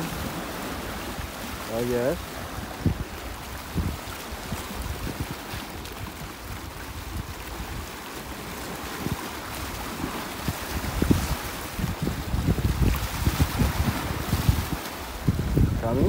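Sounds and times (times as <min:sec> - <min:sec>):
small waves washing on rocks: 0:00.0 - 0:16.0
wind buffeting microphone: 0:00.0 - 0:16.0.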